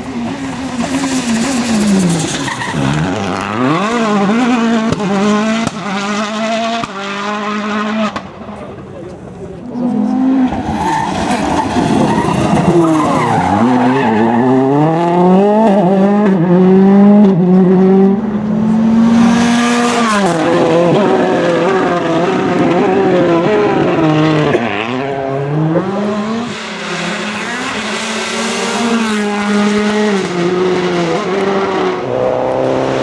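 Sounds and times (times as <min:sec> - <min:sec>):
rally car engine revving: 0:00.0 - 0:33.0
tyre noise: 0:00.0 - 0:33.0.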